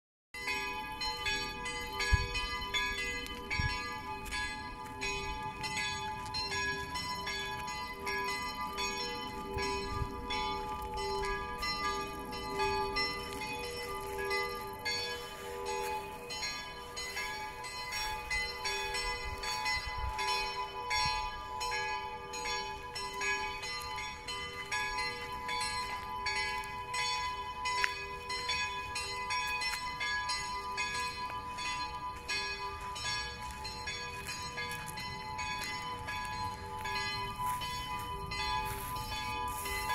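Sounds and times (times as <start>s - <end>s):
church bells ringing: 0.4s - 39.9s.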